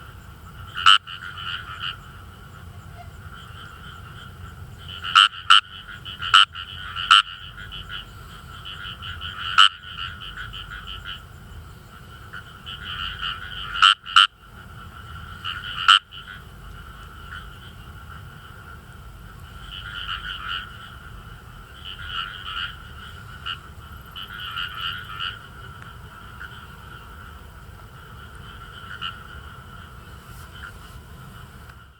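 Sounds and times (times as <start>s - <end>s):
frogs croaking in chorus: 0.0s - 31.9s.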